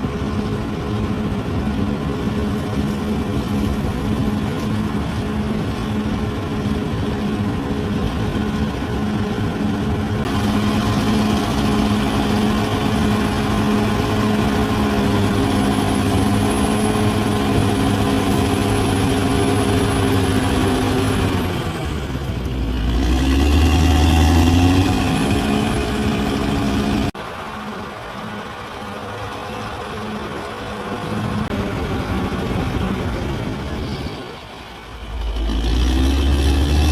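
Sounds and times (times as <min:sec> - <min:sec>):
bulldozer diesel engine running: 0:00.0 - 0:36.9.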